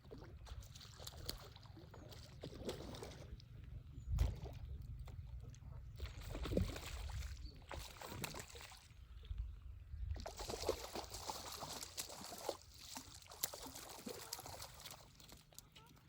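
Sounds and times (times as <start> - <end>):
water sloshing and trickling: 0.0 - 16.0.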